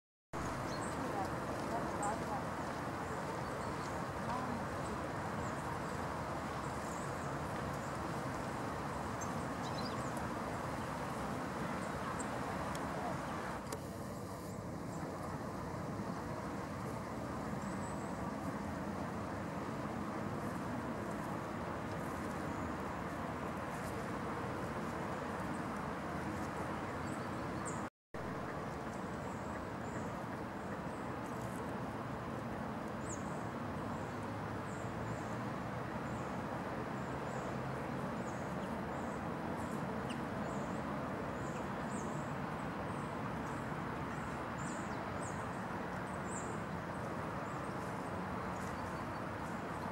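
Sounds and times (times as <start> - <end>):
distant road traffic hum: 0.4 - 49.9.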